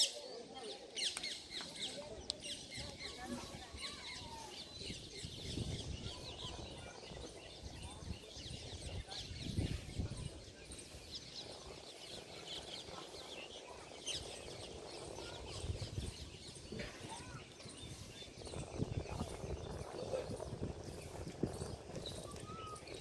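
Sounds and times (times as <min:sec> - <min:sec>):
birds chirping: 0:00.0 - 0:23.0
wind gusts on microphone: 0:02.5 - 0:23.0.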